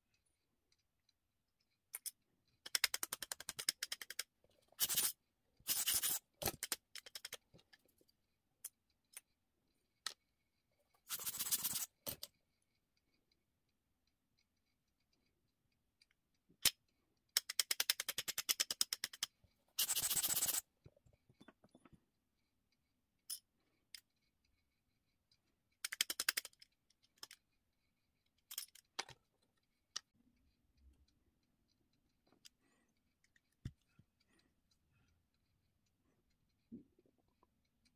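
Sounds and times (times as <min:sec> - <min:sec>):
scratchy clicking and rubbing: 0:02.0 - 0:13.4, 0:16.0 - 0:22.2, 0:23.6 - 0:37.9.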